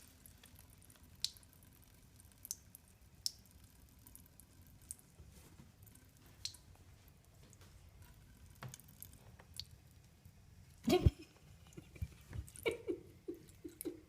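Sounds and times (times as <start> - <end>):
low room hum: 0.0 - 14.0
water dripping: 0.0 - 14.0.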